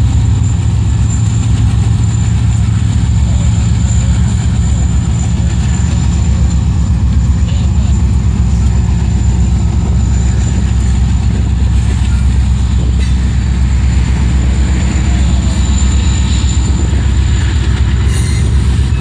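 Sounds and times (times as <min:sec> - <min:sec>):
diesel locomotive rumble: 0:00.0 - 0:19.0
freight cars rolling by: 0:00.0 - 0:19.0.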